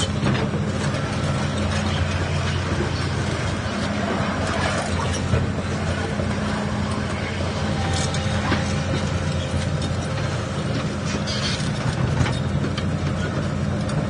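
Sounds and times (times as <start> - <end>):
hydraulic pump humming: 0.0 - 14.0.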